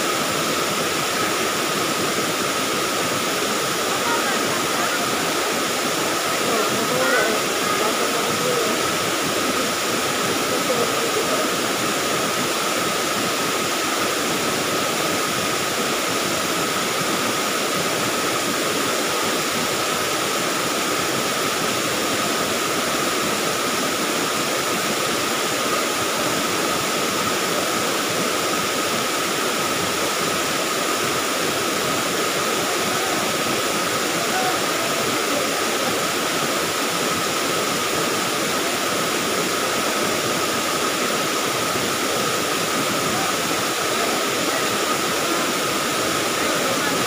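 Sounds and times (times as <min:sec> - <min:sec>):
waterfall and river rapids rushing: 0:00.0 - 0:47.0.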